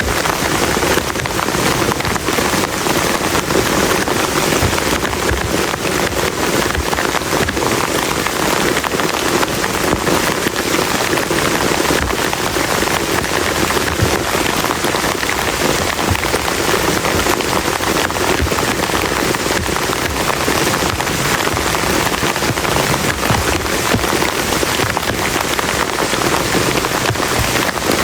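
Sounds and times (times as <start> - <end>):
heavy rain on a tarp: 0.0 - 28.0.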